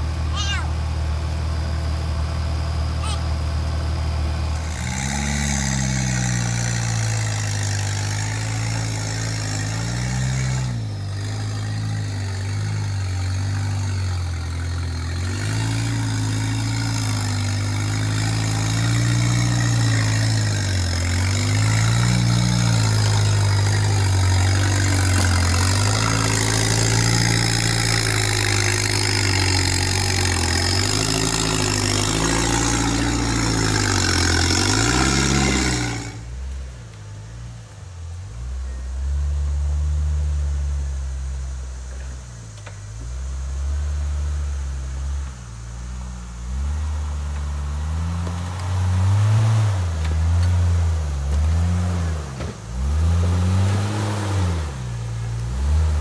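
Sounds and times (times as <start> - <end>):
truck engine revving at low speed: 0.0 - 56.0.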